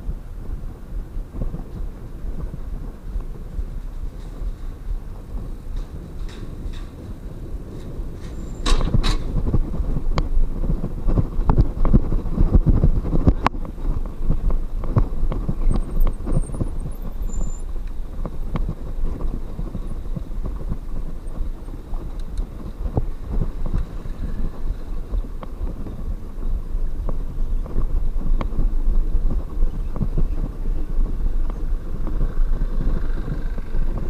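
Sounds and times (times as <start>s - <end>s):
wind rumbling on microphone: 0.0s - 34.0s
bicycle knocks and rattles: 0.1s - 34.0s.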